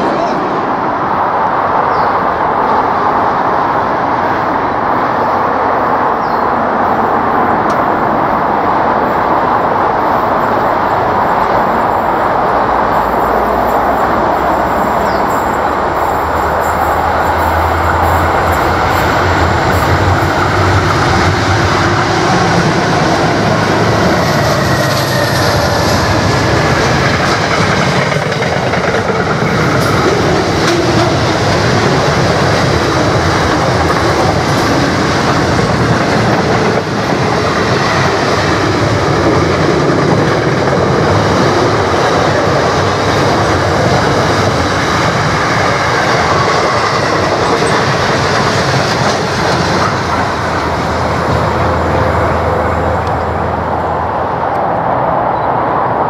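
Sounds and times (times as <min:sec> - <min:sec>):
diesel locomotive engine rumble: 0:00.0 - 0:56.0
train wheels on rails: 0:00.0 - 0:56.0.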